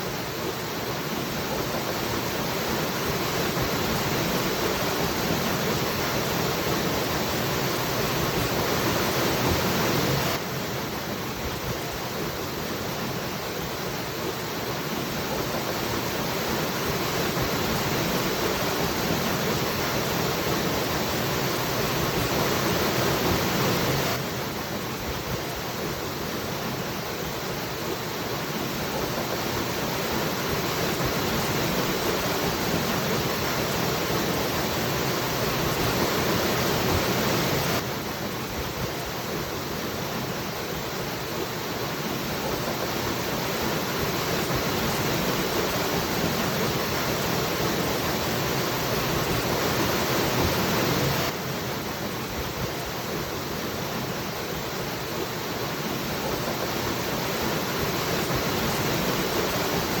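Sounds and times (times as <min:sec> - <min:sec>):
waterfall roaring: 0:00.0 - 1:00.0.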